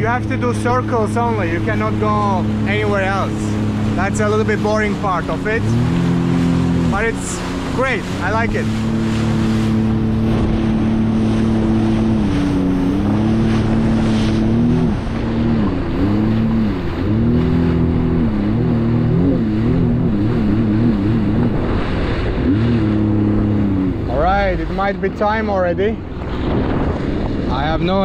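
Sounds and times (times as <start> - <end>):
jet ski engine running: 0.0 - 28.0.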